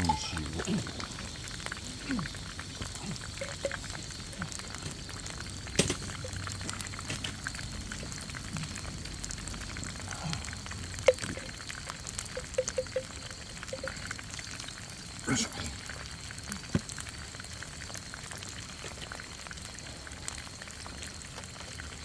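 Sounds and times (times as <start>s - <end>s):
food frying in hot oil: 0.0s - 22.0s.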